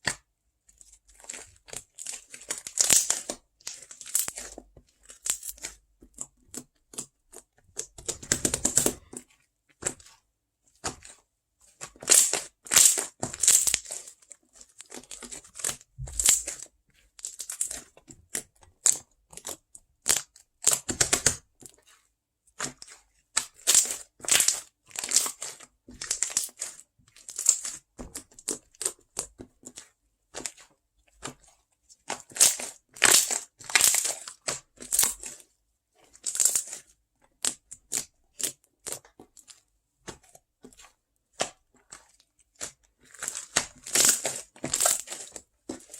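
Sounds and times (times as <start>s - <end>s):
crinkling and crushing: 0.1s - 45.9s.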